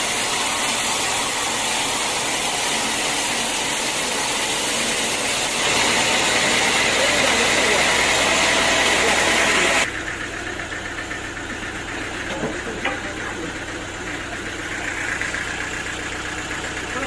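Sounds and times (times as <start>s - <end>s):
engine idling: 0.0s - 17.0s
sawmill cutting noise: 0.0s - 17.0s.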